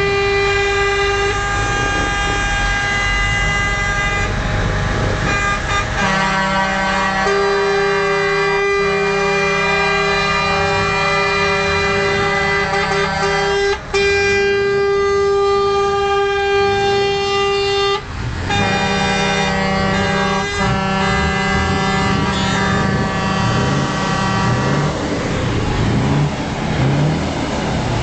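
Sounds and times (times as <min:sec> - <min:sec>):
truck air horns chords: 0:00.0 - 0:27.1.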